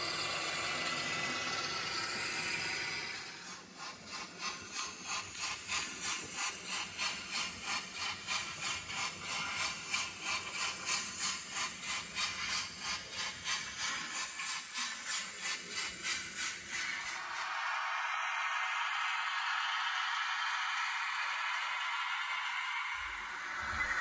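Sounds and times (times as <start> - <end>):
model train clicking on track: 0.0 - 23.9.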